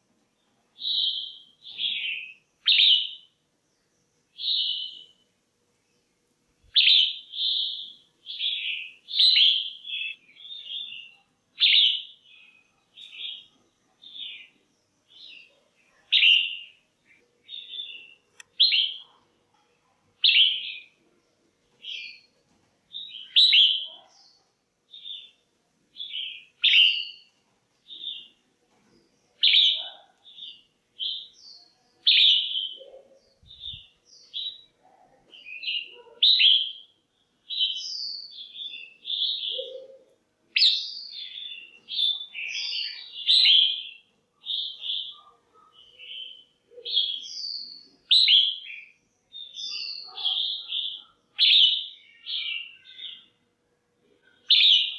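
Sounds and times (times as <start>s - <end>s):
bird chirping: 0.0s - 19.3s, 20.2s - 53.4s, 54.2s - 54.9s.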